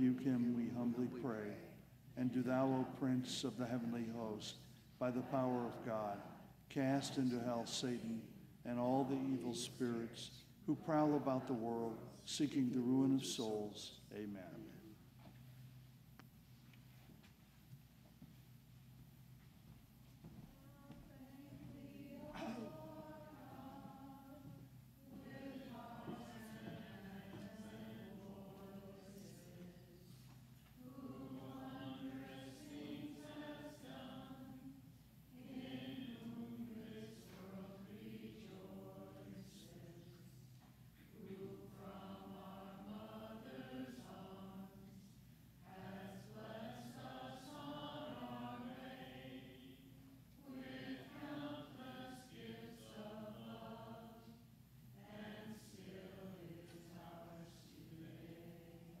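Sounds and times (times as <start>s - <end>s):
congregation singing slowly: 0.0s - 59.0s.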